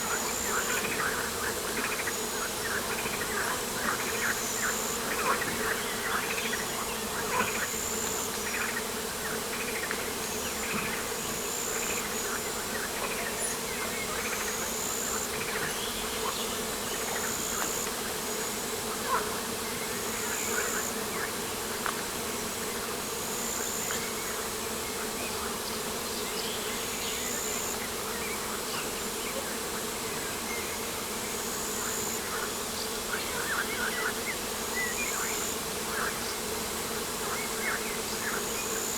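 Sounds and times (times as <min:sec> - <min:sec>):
insects buzzing: 0:00.0 - 0:38.9.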